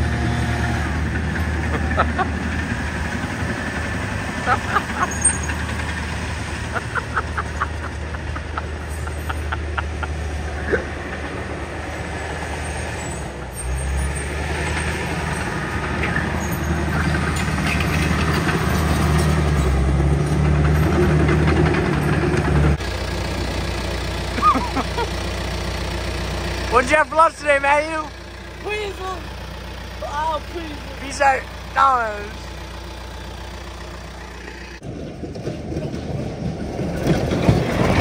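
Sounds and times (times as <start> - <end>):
low steady engine hum: 0.0 - 38.0.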